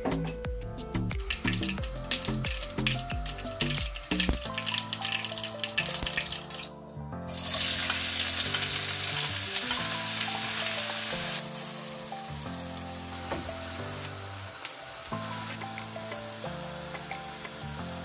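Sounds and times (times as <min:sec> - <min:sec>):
melodic background music: 0:00.0 - 0:18.0
food sizzling in a pan: 0:01.2 - 0:06.7, 0:07.3 - 0:18.0.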